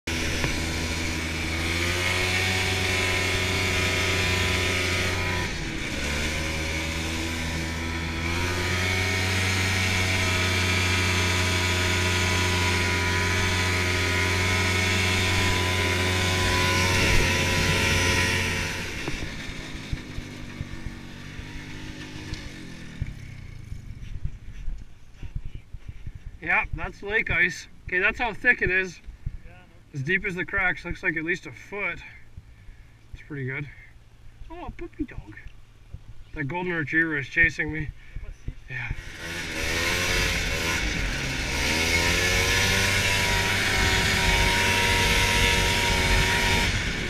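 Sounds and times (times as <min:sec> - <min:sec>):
snowmobile engine running: 0:00.0 - 0:29.0, 0:36.5 - 0:47.0.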